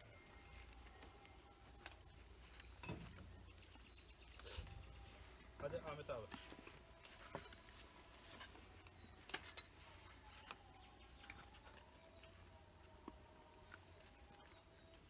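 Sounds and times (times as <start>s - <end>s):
faint clicks and taps: 0.0s - 15.0s.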